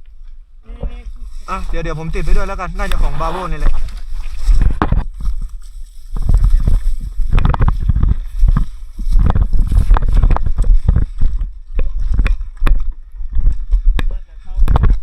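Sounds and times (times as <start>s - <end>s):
microphone handling noise: 0.0s - 15.0s
wind rumble on microphone: 0.0s - 15.0s.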